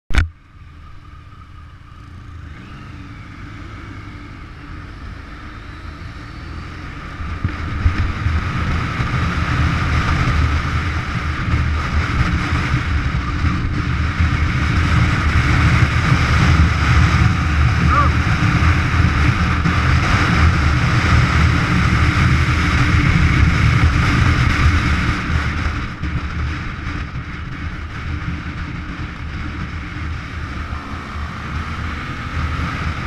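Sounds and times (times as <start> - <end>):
motorcycle engine rumble: 0.1 - 33.0
wind rushing over microphone: 2.4 - 33.0.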